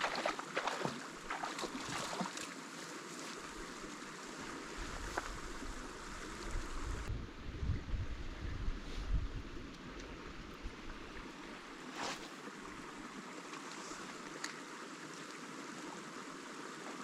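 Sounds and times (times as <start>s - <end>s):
brook water running: 0.0s - 7.1s, 9.4s - 17.0s.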